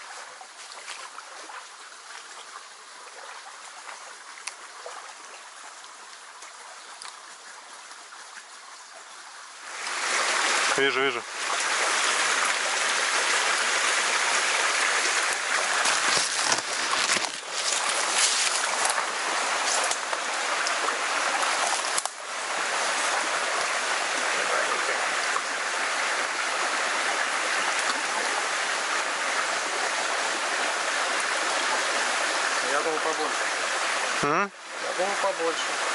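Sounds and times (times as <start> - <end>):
creek water rushing: 0.0 - 35.9.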